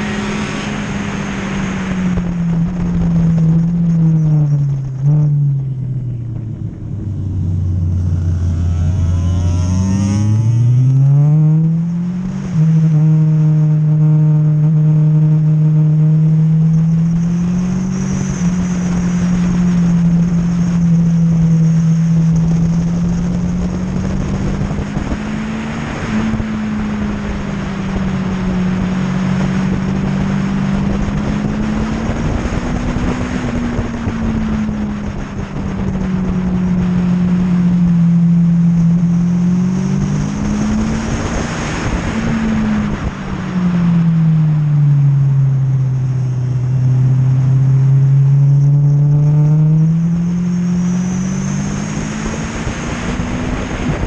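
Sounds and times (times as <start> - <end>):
wind rush: 0.0 - 13.2, 16.8 - 49.2, 49.9 - 54.0
motorcycle engine at speed: 0.0 - 54.0.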